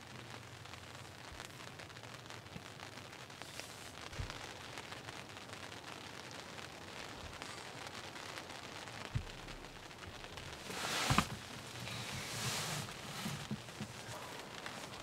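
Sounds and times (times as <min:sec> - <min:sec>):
light rain on fabric: 0:00.0 - 0:15.0.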